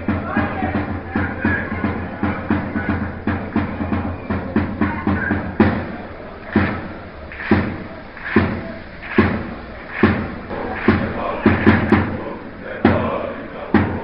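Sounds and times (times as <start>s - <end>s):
drum beats: 0.0s - 14.0s
fans chanting: 0.0s - 14.0s.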